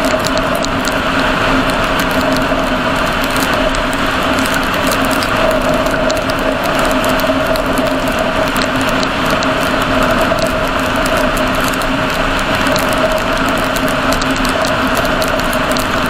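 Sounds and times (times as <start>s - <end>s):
car engine and tyre noise: 0.0s - 16.0s
light irregular ticks: 0.0s - 16.0s.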